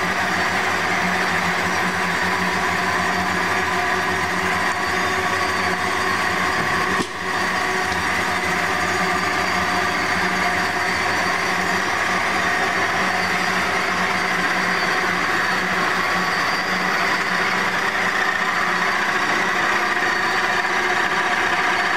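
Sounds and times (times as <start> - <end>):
band saw humming and whining: 0.0 - 21.9.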